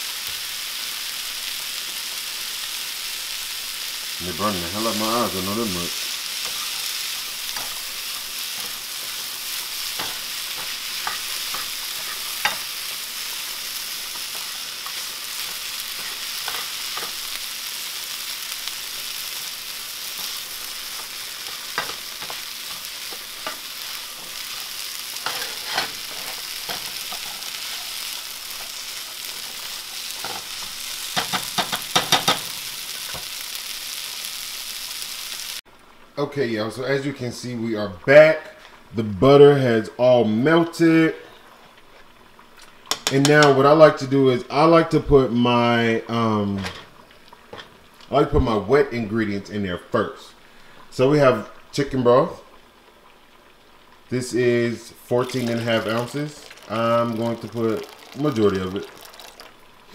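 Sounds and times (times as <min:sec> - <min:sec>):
onions sizzling in a frying pan: 0:00.0 - 0:59.9.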